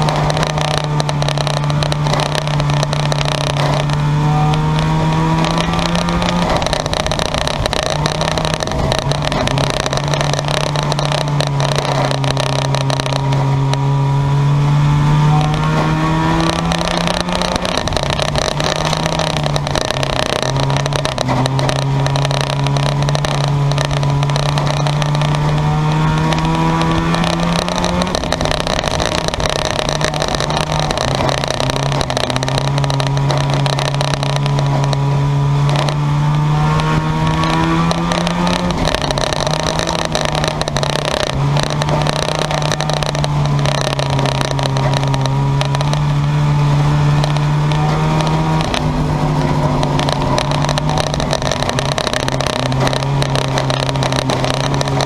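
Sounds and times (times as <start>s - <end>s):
race car engines running hard: 0.0s - 55.0s.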